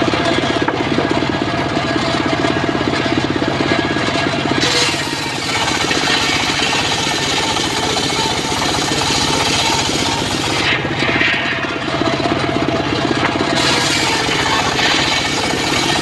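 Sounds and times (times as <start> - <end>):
saw blade cutting wood: 0.0 - 16.0
saw engine running: 0.0 - 16.0.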